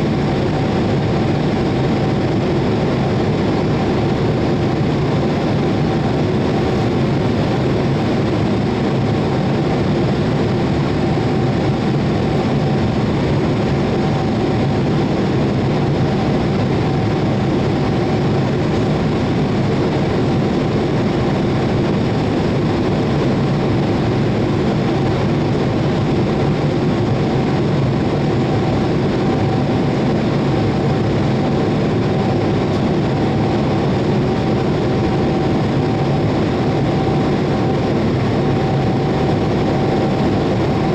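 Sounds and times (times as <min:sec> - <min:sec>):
jet engines rumbling in flight: 0:00.0 - 0:40.9.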